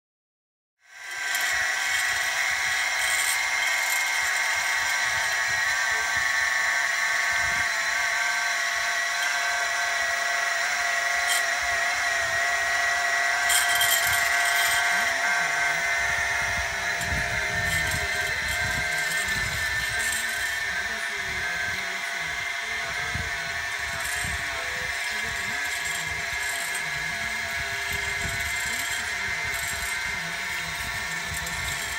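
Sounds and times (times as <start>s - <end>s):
stepper motors whining: 0.8s - 31.9s
high scratchy bursts: 1.1s - 31.9s.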